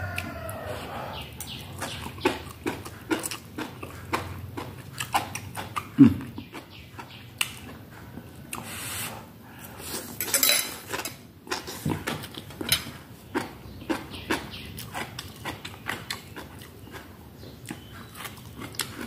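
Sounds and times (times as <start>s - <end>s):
low hum from person eating: 0.0s - 19.0s
slurping and chewing: 0.0s - 19.0s.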